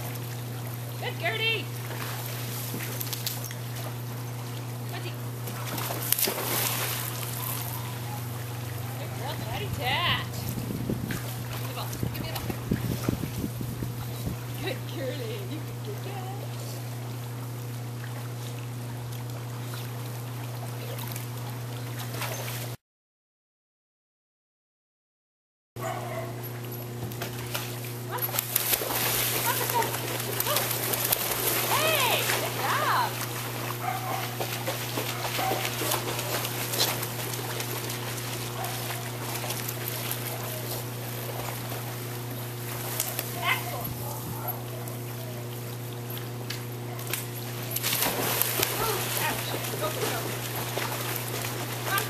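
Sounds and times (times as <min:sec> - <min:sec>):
pool pump hum: 0:00.0 - 0:22.8, 0:25.8 - 0:52.0
water lapping and splashing: 0:00.0 - 0:22.8, 0:25.8 - 0:52.0.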